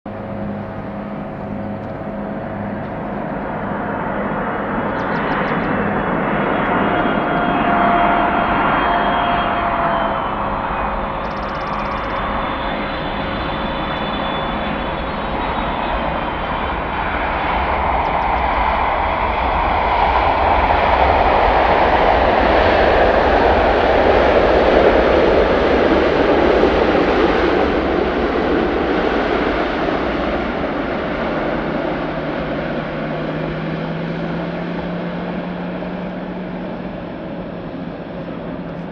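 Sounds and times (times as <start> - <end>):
jet engine roar: 0.1 - 38.9
wind buffeting microphone: 0.1 - 38.9.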